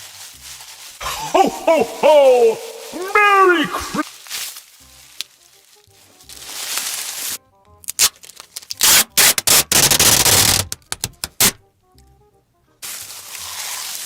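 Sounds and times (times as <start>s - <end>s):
crunching and crackling: 0.0s - 11.6s, 12.8s - 14.0s
soft background music: 0.0s - 14.0s.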